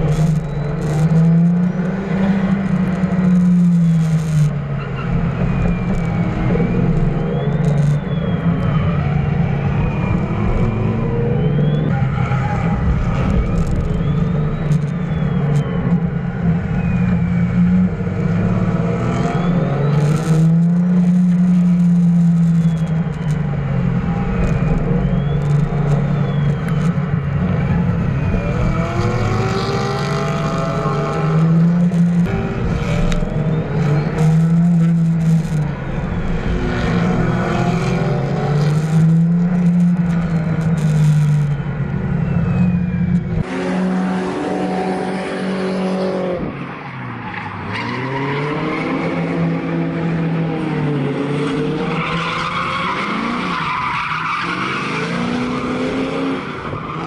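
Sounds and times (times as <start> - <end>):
car engines revving high: 0.0 - 57.0
tires sliding on asphalt: 0.0 - 57.0.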